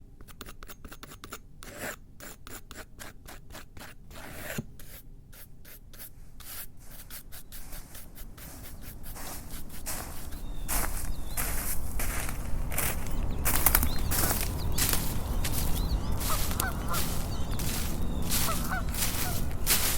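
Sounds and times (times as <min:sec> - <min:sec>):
scraping rubbing strokes: 0:02.7 - 0:19.9.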